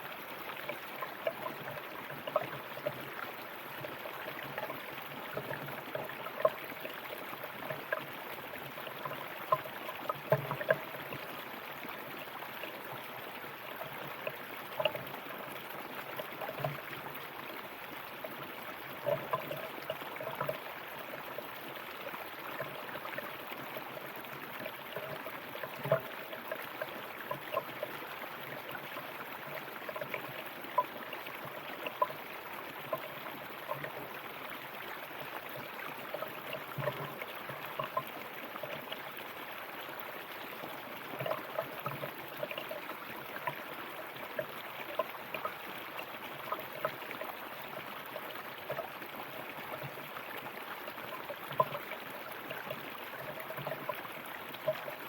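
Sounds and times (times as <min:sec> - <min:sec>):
water bubbling and splashing: 0:00.0 - 0:55.0.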